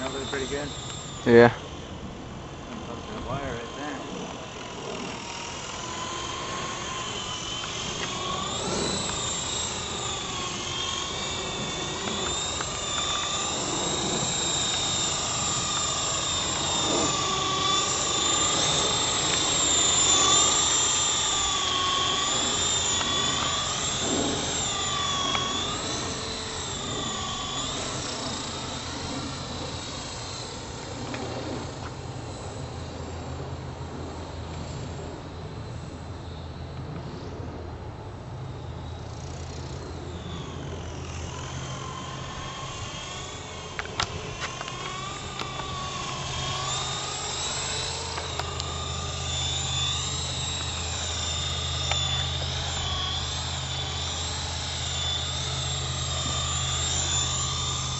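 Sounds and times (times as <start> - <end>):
model helicopter motor whine: 0.0 - 57.9.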